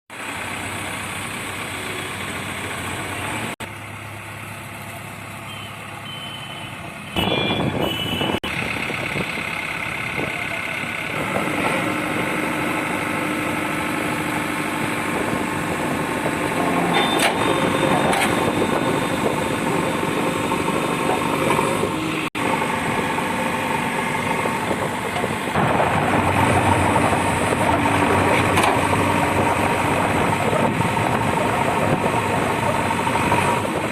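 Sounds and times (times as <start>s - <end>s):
heavy diesel engines under load: 0.1s - 33.9s.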